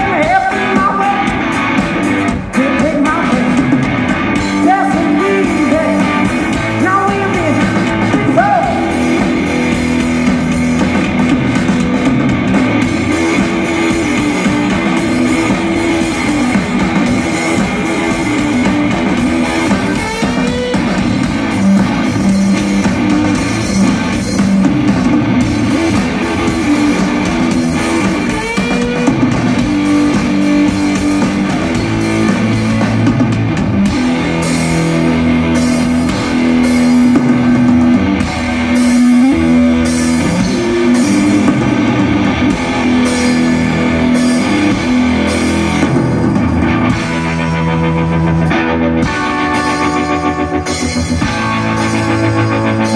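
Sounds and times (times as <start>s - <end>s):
drum kit: 0.0s - 52.9s
electric guitar playing: 0.0s - 52.9s.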